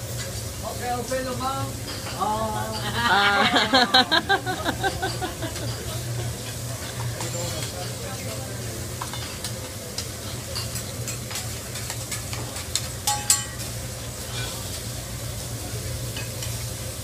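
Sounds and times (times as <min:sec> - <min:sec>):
eggs sizzling on a griddle: 0:00.0 - 0:17.0.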